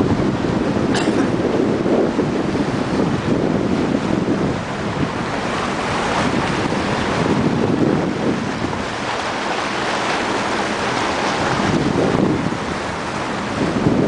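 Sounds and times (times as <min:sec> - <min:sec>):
water rushing along boat hull: 0:00.0 - 0:14.0
wind buffeting microphone: 0:00.0 - 0:14.0.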